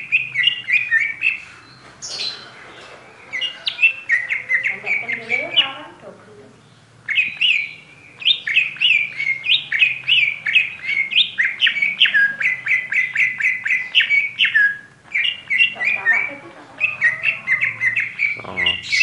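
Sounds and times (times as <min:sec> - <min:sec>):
bird singing whistled notes: 0:00.0 - 0:02.5, 0:03.2 - 0:05.8, 0:07.0 - 0:19.0.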